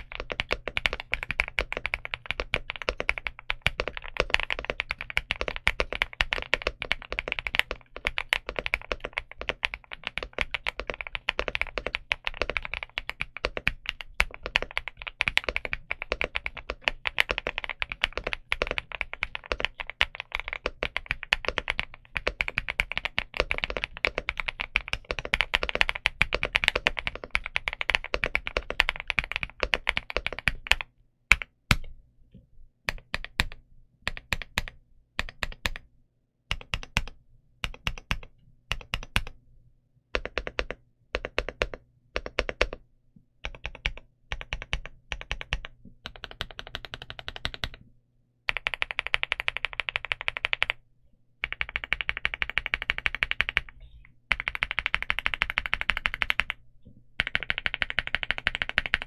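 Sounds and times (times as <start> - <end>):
mechanical keyboard typing: 0.0 - 31.9, 32.9 - 35.8, 36.5 - 39.4, 40.2 - 42.8, 43.4 - 47.8, 48.5 - 50.8, 51.4 - 56.6, 57.2 - 59.0.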